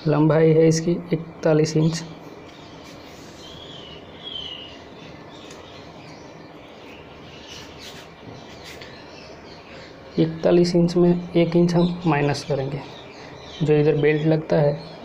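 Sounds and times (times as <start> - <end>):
steady low hiss: 0.0 - 15.0
small bird chirping: 1.7 - 15.0.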